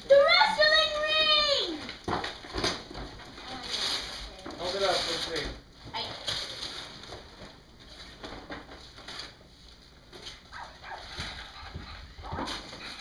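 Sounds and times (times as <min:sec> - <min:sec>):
wrapping paper rustling and tearing: 0:00.1 - 0:11.7.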